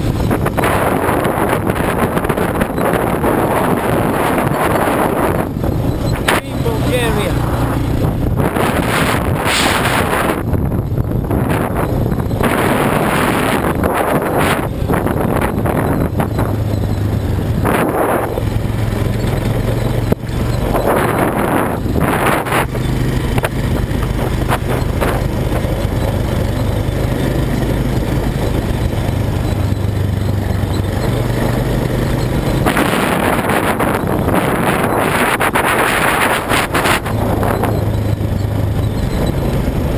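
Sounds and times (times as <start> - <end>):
quad bike engine running: 0.0 - 39.9
wind noise on microphone: 0.0 - 39.9.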